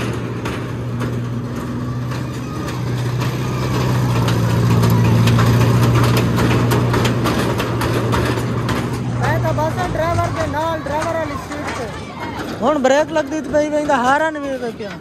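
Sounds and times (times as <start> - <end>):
ride motor humming: 0.0 - 15.0.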